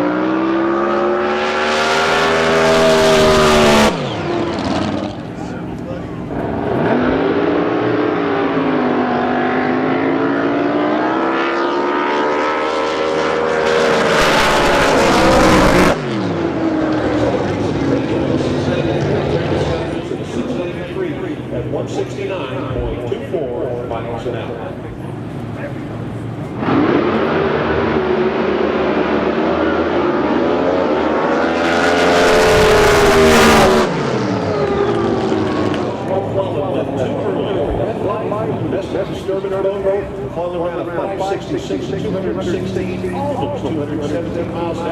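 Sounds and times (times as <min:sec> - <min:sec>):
racing boat engine at full throttle: 0:00.0 - 0:44.9.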